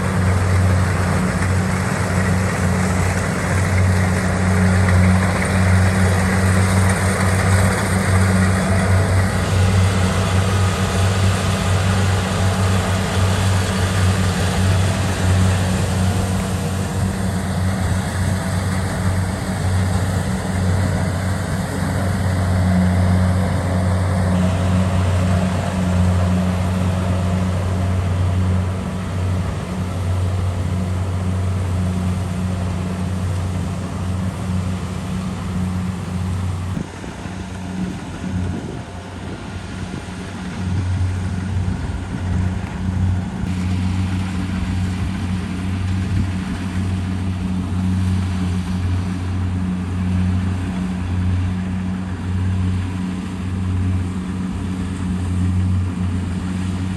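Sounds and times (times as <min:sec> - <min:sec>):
combine harvester diesel engine droning: 0:00.0 - 0:56.9.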